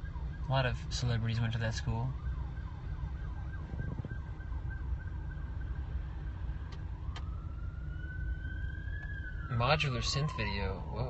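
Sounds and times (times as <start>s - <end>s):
car road and engine rumble: 0.0s - 11.0s
emergency vehicle siren: 0.0s - 11.0s.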